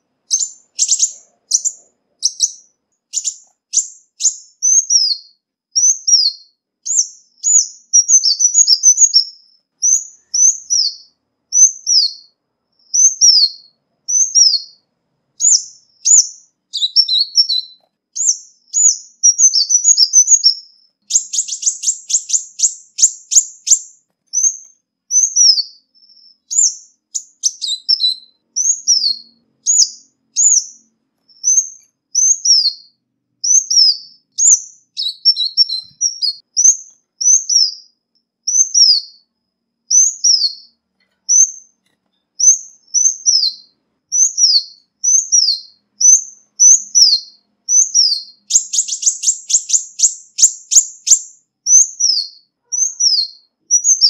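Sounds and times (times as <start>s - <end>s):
bird rapid trill: 0.0s - 14.8s, 15.4s - 39.2s, 39.9s - 41.8s, 42.4s - 54.0s
sunbird calling: 0.0s - 14.8s, 15.4s - 39.3s, 42.4s - 54.0s.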